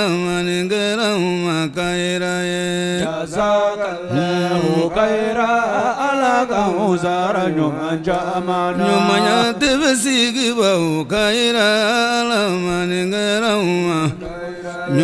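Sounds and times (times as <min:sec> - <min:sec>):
man chanting unaccompanied: 0:00.0 - 0:15.0.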